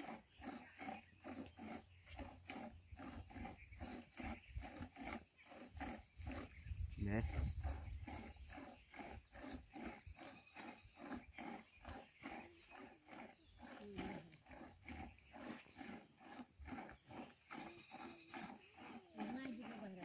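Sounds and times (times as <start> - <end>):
low animal sounds: 0.0 - 20.0.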